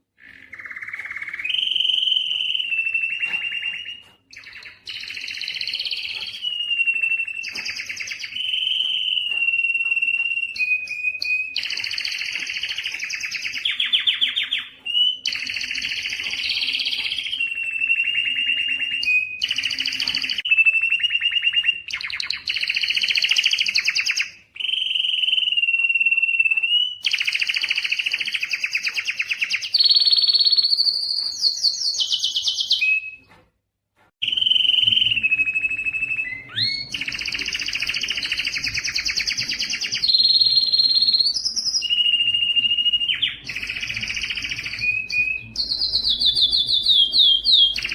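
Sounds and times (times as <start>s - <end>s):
canary singing trills and whistles: 0.0s - 33.4s, 34.2s - 47.9s.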